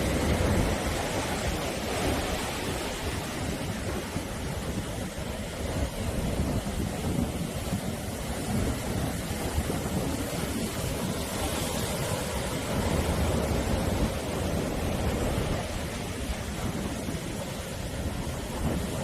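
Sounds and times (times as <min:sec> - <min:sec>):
sea waves washing onto shore: 0:00.0 - 0:19.0.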